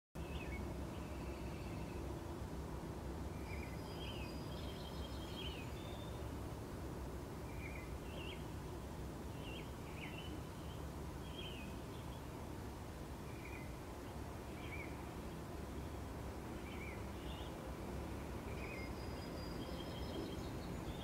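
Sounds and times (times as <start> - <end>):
small birds chirping: 0.2 - 2.4, 3.3 - 6.4, 7.4 - 8.6, 9.2 - 12.5, 13.2 - 17.7, 18.4 - 21.0.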